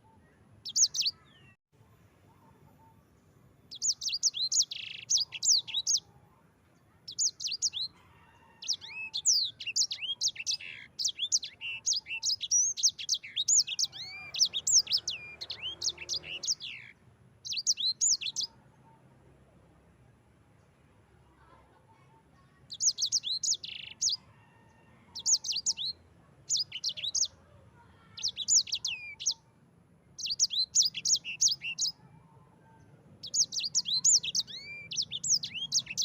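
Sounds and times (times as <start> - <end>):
songbird chirps and trills: 0.0 - 36.0.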